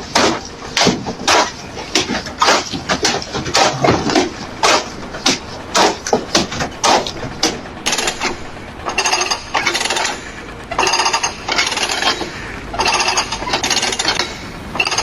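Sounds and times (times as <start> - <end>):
power tool hammering: 0.0 - 15.0.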